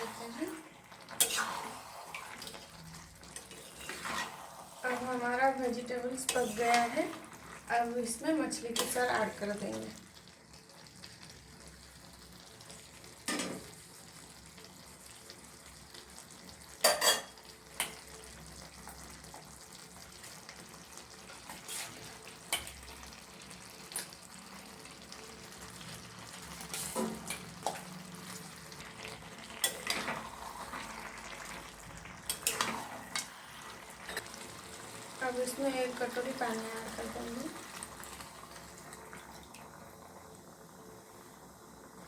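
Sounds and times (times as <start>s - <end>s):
food sizzling in a pan: 0.0s - 42.0s.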